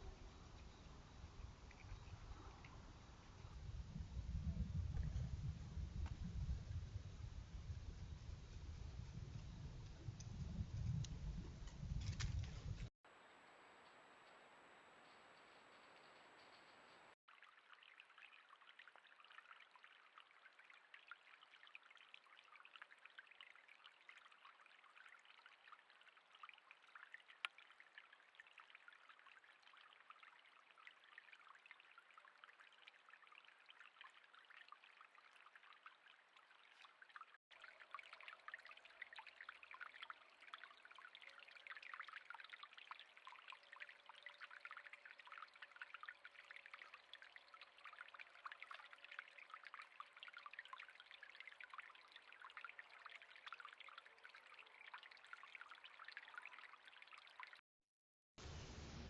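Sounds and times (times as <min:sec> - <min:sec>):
faint crackling patter of water: 0:00.0 - 0:57.6, 0:58.4 - 0:59.0.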